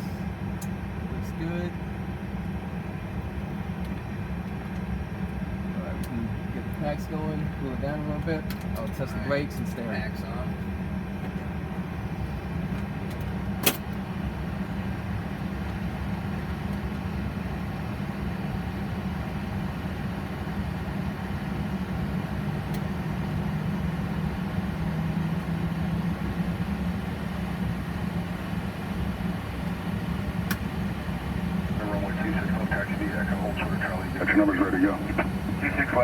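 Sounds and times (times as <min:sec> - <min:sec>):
air-conditioning running: 0:00.0 - 0:36.0
jet engines idling: 0:00.0 - 0:36.0.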